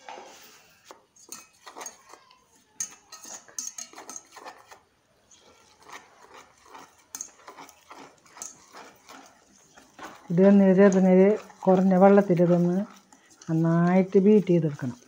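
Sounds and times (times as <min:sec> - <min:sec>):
spoon stirring dry mix in bowl: 0:00.1 - 0:15.0.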